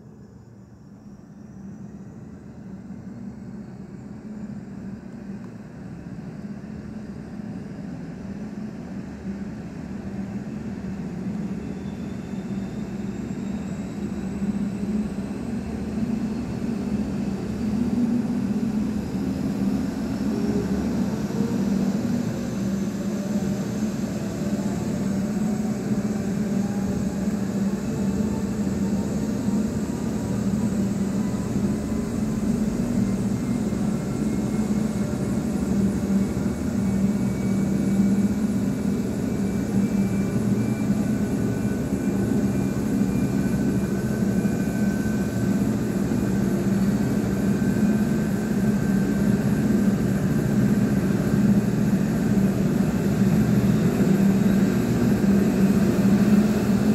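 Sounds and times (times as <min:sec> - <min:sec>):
helicopter turbine whine: 0:00.0 - 0:56.9.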